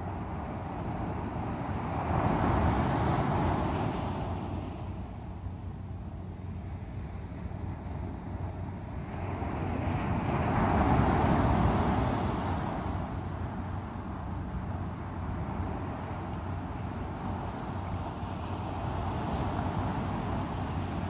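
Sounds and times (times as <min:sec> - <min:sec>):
sea waves breaking on shore: 0:00.0 - 0:05.4, 0:06.6 - 0:21.0.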